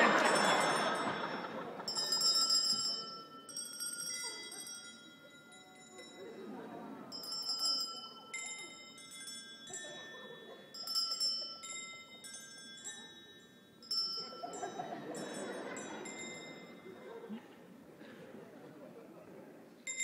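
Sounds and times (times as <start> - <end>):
low crowd murmur: 0.0 - 20.0.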